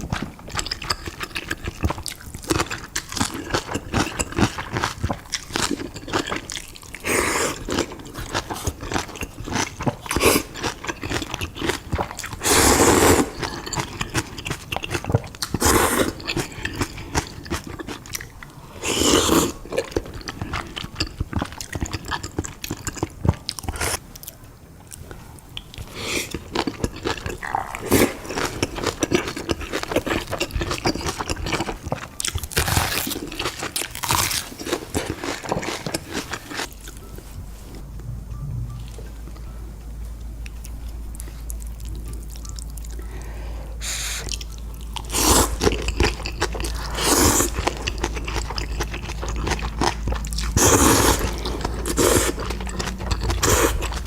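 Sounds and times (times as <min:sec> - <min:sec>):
person chewing crunchy food: 0:00.0 - 0:38.7, 0:40.2 - 0:54.0.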